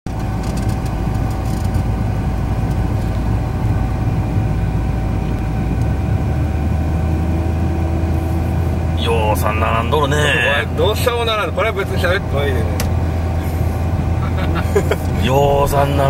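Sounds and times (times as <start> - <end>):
engine and tyre rumble: 0.1 - 16.0.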